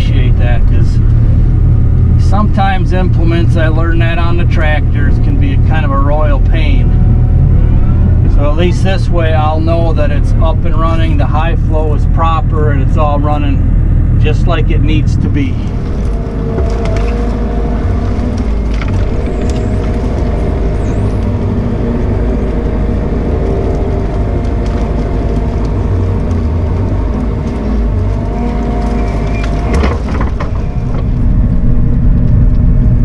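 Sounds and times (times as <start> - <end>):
excavator engine drone: 0.0 - 33.0
trees dragged by bucket: 2.1 - 13.6, 14.2 - 32.8.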